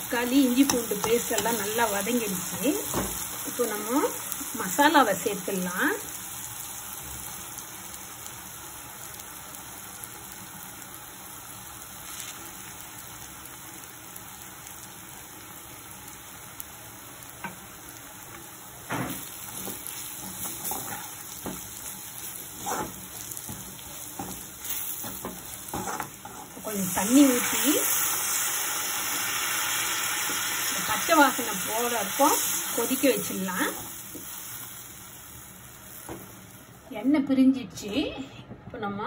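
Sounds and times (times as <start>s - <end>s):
sauce sizzling in oil: 0.0s - 37.1s.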